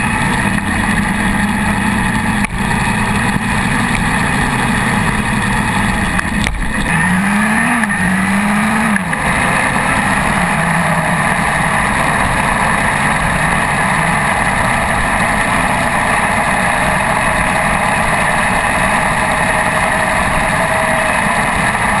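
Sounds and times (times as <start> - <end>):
motorcycle engine revving: 0.0 - 22.0
wind and road noise: 0.0 - 22.0.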